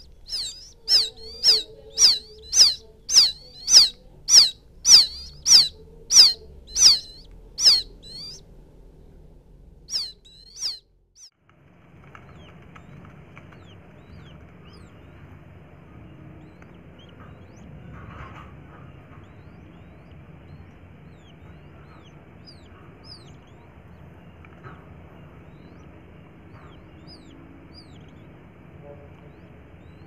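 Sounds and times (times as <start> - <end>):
chicks peeping: 0.0 - 8.4, 9.9 - 11.3, 12.1 - 30.0.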